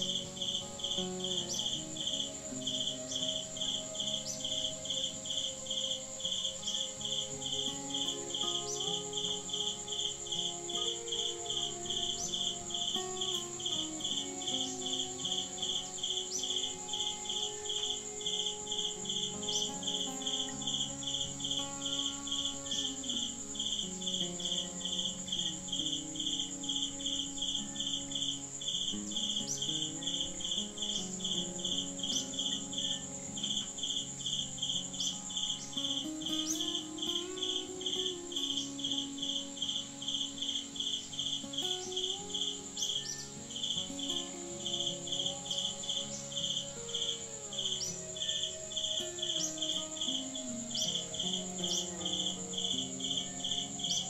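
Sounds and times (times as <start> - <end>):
continuous high whine: 0.0 - 54.0
insects chirping: 0.0 - 54.0.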